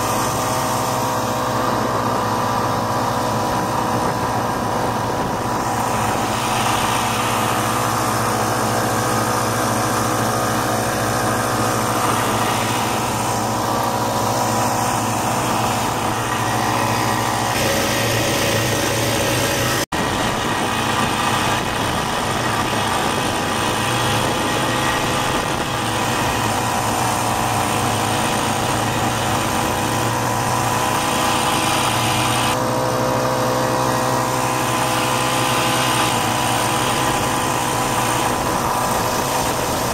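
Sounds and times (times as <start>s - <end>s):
snowmobile engine buzzing: 0.0s - 39.9s.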